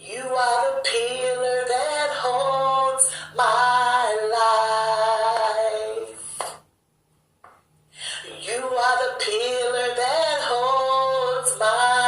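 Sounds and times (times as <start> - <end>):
woman singing: 0.0 - 6.2, 8.4 - 12.0.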